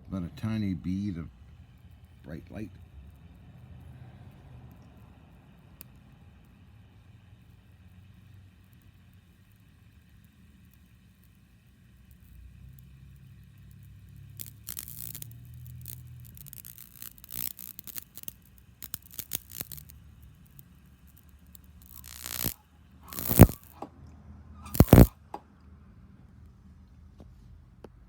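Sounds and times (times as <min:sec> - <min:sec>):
electric arc crackling: 0:00.4 - 0:23.8, 0:24.6 - 0:25.2.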